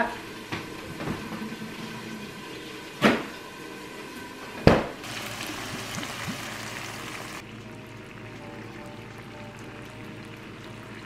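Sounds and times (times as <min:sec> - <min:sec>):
chicken sizzling in a frying pan: 0:00.1 - 0:11.0.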